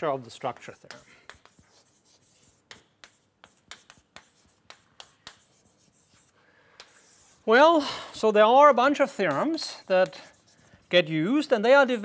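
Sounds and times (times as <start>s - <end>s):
chalk writing on chalkboard: 0.0s - 7.6s, 9.0s - 12.0s.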